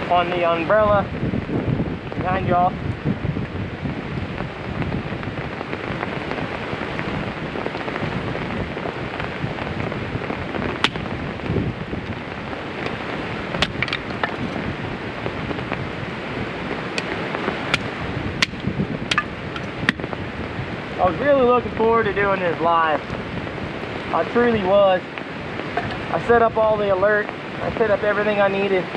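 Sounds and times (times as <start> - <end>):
rain pattering on umbrella: 0.0 - 28.9.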